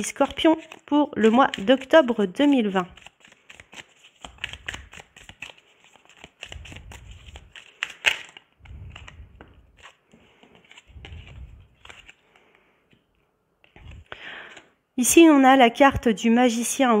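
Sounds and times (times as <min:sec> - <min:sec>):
cards shuffling: 0:00.1 - 0:14.7.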